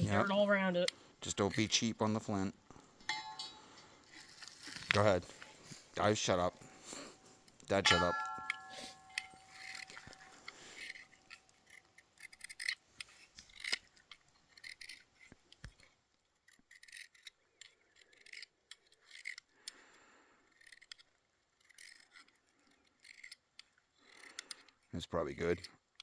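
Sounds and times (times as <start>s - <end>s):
knife scraping flint rod: 0.9s - 1.9s, 3.0s - 26.0s.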